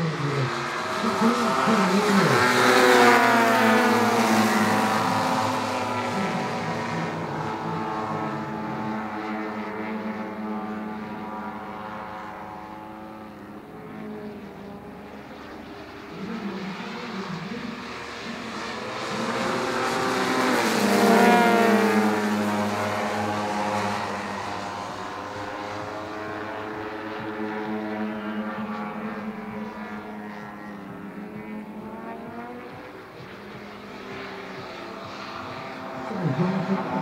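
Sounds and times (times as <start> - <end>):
model plane engines buzzing: 0.0 - 37.0.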